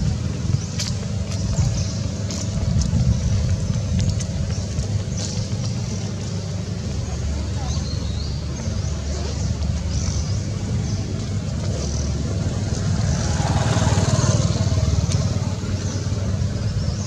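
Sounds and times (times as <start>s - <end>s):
motor vehicle engine rumble: 0.0s - 17.0s.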